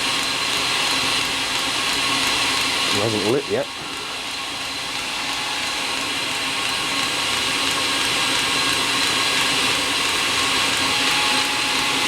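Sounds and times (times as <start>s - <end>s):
heater blower fan whirring: 0.0s - 12.0s.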